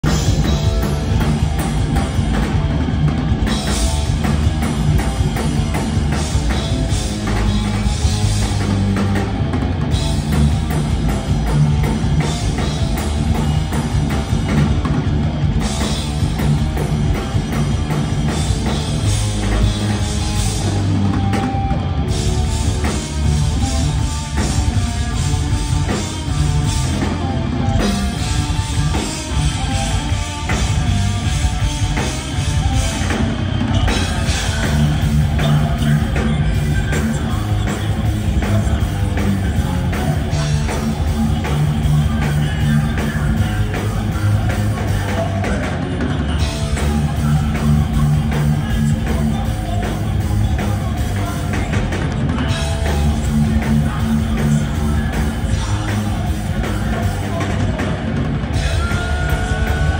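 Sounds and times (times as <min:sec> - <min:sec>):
bass guitar: 0:00.0 - 0:59.9
distorted electric guitars: 0:00.0 - 0:59.9
drum kit: 0:00.0 - 0:59.9.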